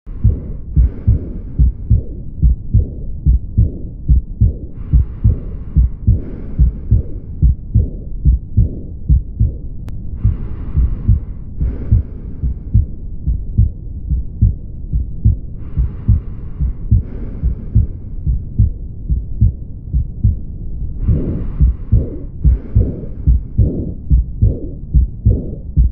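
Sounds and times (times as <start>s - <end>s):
heartbeat through stethoscope: 0.1s - 25.9s
soft blowing heart murmur: 0.1s - 25.9s.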